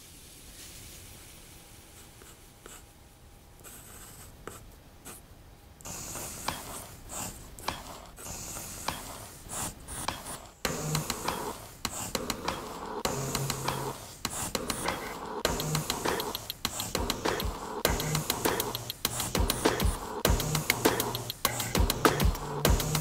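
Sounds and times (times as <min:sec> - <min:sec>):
faint steady hum: 0:00.0 - 0:23.0
pencil scratching on paper: 0:02.0 - 0:02.8, 0:03.6 - 0:05.2, 0:05.9 - 0:23.0.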